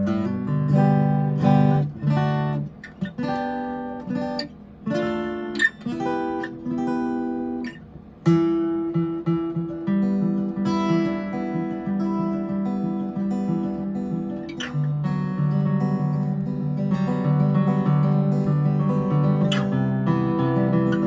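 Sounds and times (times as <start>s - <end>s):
acoustic guitar chords ringing: 0.0s - 21.0s.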